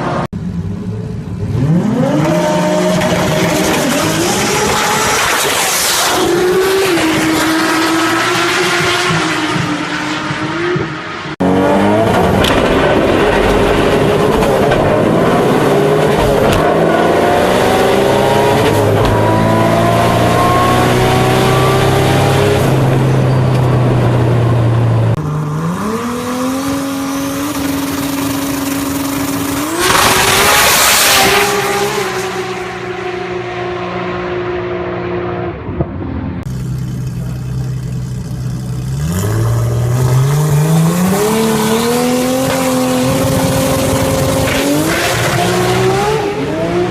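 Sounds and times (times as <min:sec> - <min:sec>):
car engine accelerating: 0:00.0 - 0:46.9.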